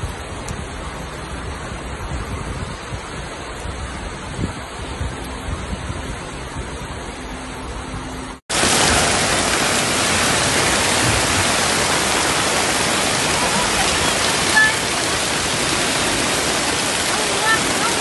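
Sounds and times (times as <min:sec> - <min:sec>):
heavy rain falling: 0:00.0 - 0:07.9, 0:08.5 - 0:18.0
floodwater rushing down a street: 0:00.0 - 0:18.0.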